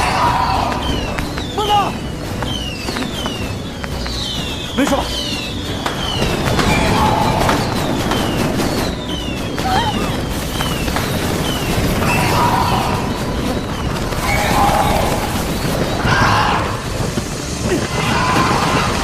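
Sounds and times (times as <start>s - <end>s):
short falling whistles: 0.0s - 17.1s
crashing and booming: 0.0s - 19.0s
voices crying out: 0.0s - 19.0s.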